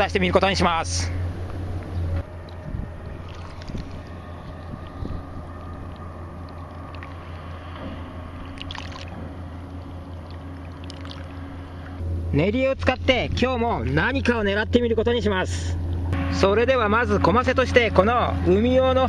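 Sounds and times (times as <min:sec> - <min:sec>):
engine low drone: 0:00.0 - 0:19.0.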